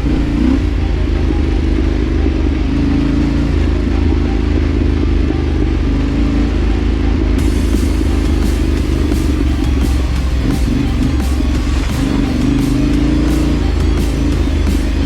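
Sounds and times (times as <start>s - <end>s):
motorcycle engine running: 0.0s - 6.8s, 7.4s - 15.0s.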